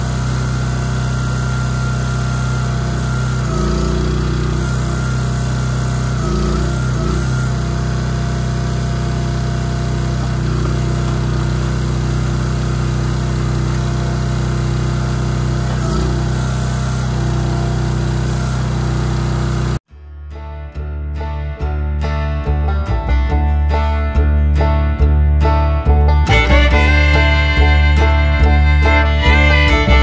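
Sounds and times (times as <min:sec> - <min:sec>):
small engine running steadily: 0:00.0 - 0:19.9, 0:25.8 - 0:30.0.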